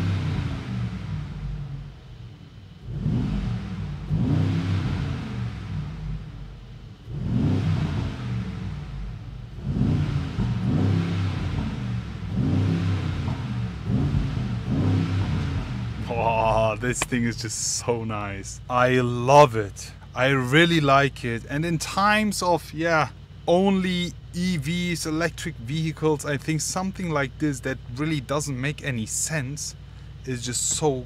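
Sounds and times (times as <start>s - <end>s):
car engine idling: 0.0s - 31.0s
car engine revving: 0.0s - 31.0s.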